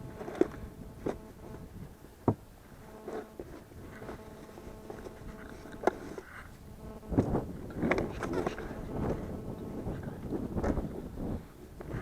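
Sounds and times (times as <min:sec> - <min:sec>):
faint buzz of flying insects: 0:00.0 - 0:12.0.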